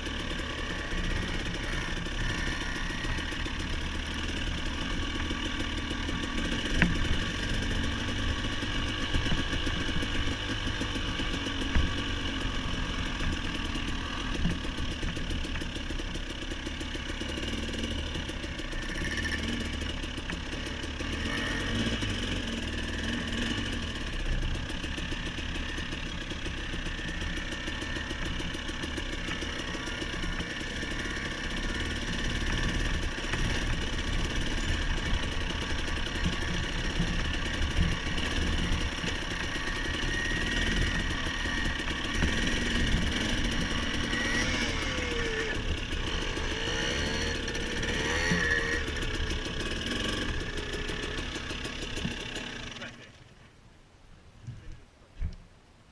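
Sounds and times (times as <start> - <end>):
motorcycle engine at low throttle: 0.0 - 53.6.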